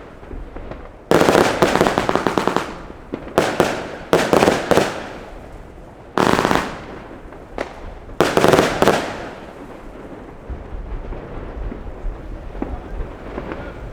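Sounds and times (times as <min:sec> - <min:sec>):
fireworks crackling bursts: 0:00.0 - 0:13.9.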